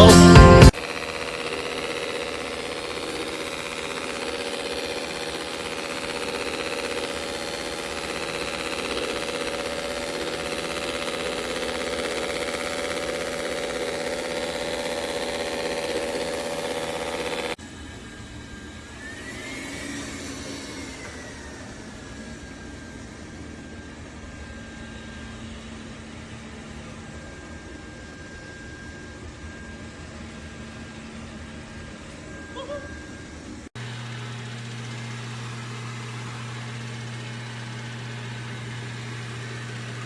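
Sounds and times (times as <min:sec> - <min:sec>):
robot vacuum motor whine: 0:00.0 - 0:40.0.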